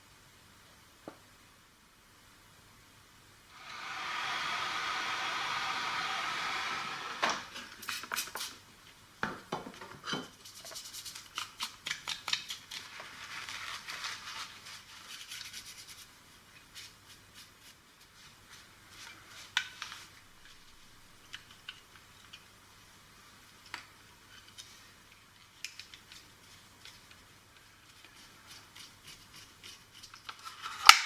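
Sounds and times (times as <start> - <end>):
steady hiss: 0.0 - 9.2, 12.3 - 30.8.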